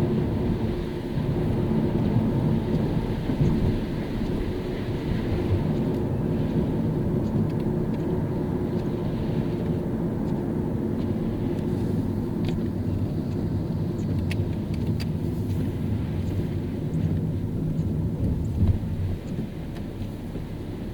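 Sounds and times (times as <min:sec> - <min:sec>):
car driving on wet road: 0:00.0 - 0:20.9.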